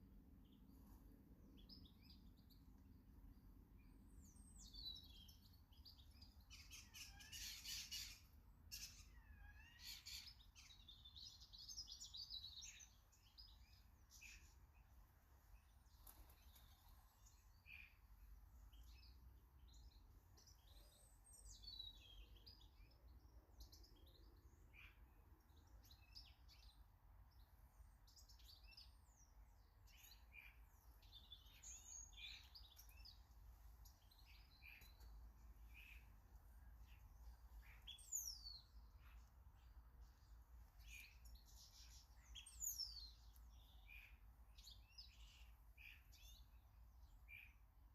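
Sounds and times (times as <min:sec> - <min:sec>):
small birds chirping and singing: 0:00.0 - 0:47.9.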